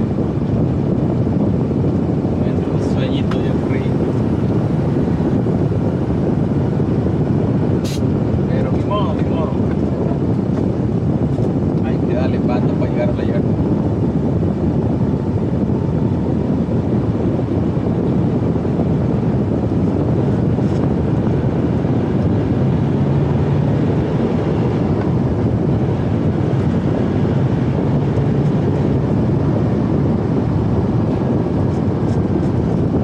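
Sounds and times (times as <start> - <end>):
diesel engine running: 0.0 - 12.0, 13.5 - 33.0
road noise: 0.0 - 33.0.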